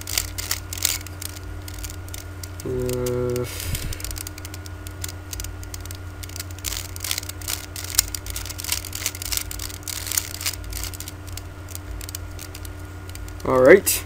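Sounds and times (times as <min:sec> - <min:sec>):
plastic cube clicking and scraping: 0:00.0 - 0:13.7
low electrical hum: 0:00.0 - 0:14.0.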